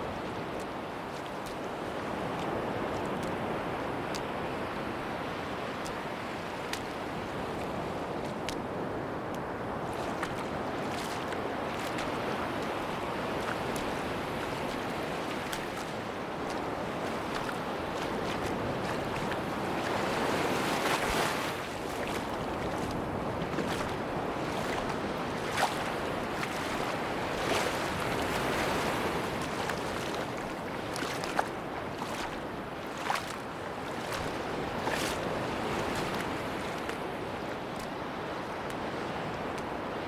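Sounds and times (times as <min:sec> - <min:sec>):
sea waves washing onto beach: 0:00.0 - 0:40.0.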